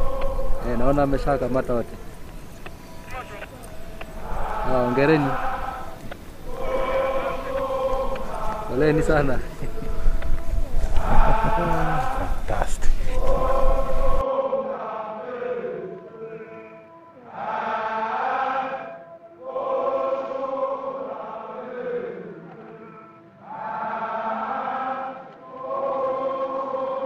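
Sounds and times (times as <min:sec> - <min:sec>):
choir chanting: 0:00.0 - 0:27.0.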